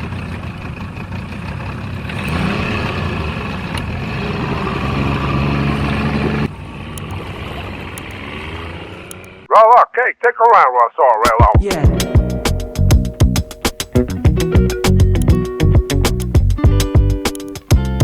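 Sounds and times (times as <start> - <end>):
vehicle engine rumbling: 0.0 - 9.7, 11.9 - 18.0.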